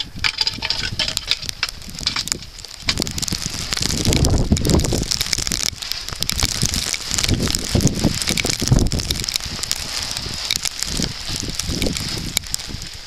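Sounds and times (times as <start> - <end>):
small crackles: 0.0 - 13.0
wind buffeting microphone: 0.0 - 13.0.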